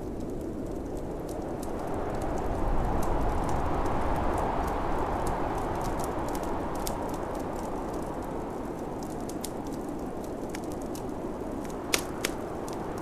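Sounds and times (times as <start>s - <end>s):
snowstorm wind whooshing: 0.0s - 13.0s
wood fire crackling and popping: 0.0s - 13.0s.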